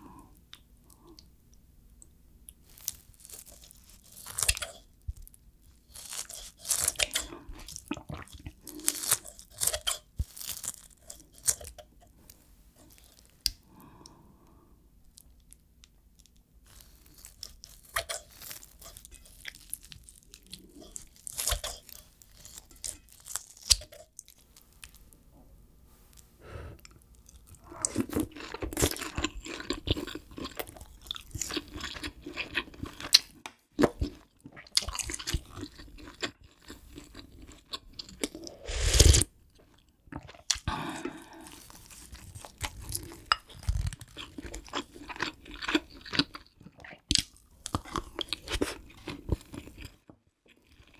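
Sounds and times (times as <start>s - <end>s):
person chewing food: 2.0s - 15.6s, 16.2s - 25.0s, 26.8s - 50.9s.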